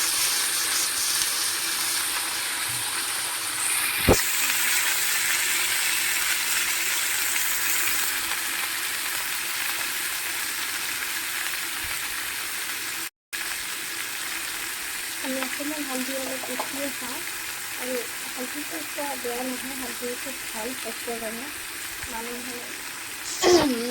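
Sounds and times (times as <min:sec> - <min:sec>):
food sizzling in hot oil: 0:00.0 - 0:23.9.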